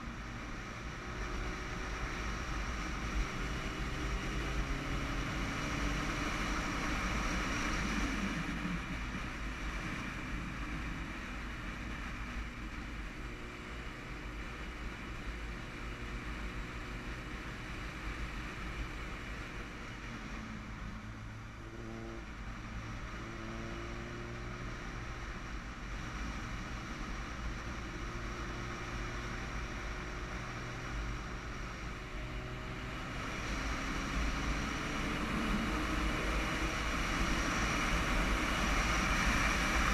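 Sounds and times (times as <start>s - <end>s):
motorcycle engine hum: 0.0s - 39.9s.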